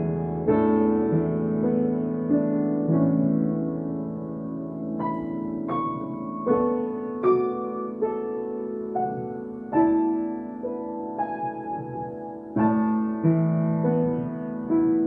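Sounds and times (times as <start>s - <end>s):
slow gentle piano melody: 0.0s - 15.0s.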